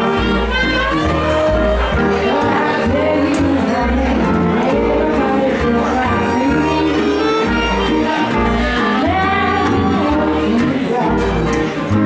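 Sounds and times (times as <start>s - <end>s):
live band playing: 0.0s - 12.0s
sliding bending lead melody: 0.0s - 12.0s
steady bass notes: 0.0s - 12.0s.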